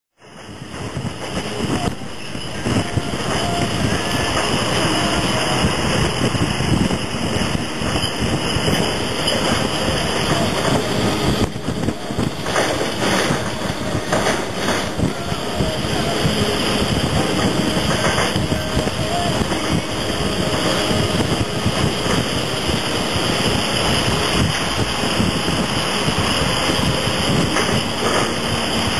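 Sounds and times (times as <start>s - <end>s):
tyre and wind noise: 0.2s - 28.9s
truck engine: 0.4s - 28.9s.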